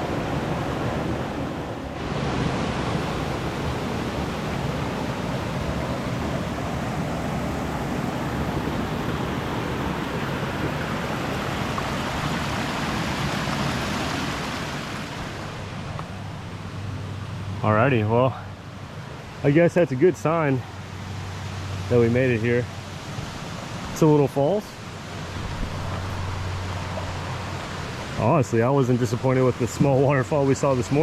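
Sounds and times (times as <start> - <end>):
waterfall rushing: 0.0 - 16.5, 22.7 - 31.0.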